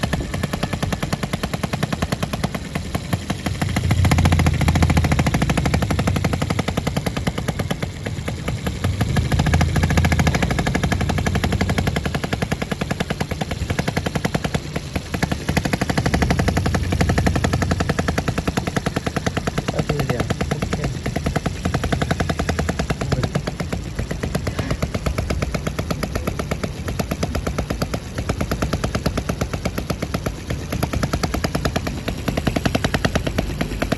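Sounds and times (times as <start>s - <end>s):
model engine running: 0.0s - 33.9s.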